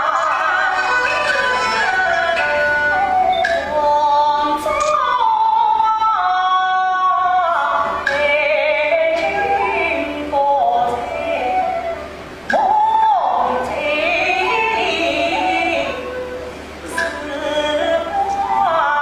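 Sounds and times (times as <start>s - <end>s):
accompanying music: 0.0s - 19.0s
woman singing opera: 0.0s - 19.0s.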